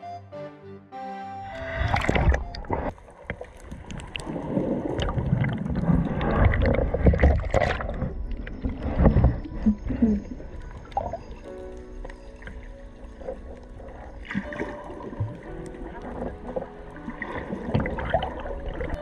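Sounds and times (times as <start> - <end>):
muffled underwater churning: 1.5 - 19.0.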